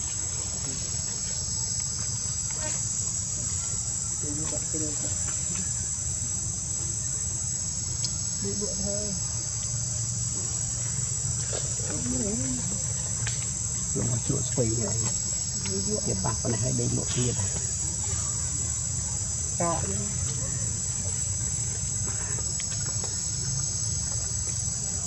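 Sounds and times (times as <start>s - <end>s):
faint distant voices: 0.0s - 25.0s
insects chorus: 0.0s - 25.0s.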